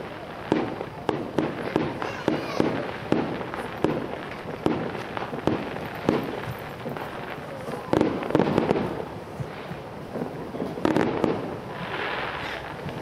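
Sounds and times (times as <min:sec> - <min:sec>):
distant fireworks bangs: 0:00.0 - 0:13.0.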